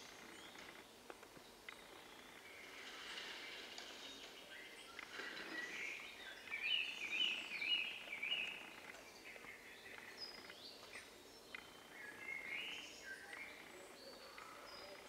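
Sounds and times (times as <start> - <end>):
birds chirping: 0.0 - 15.0
steady outdoor hiss: 0.0 - 15.0.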